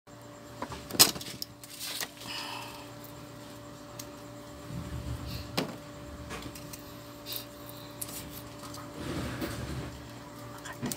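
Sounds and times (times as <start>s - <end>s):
steady low hum: 0.1s - 10.9s.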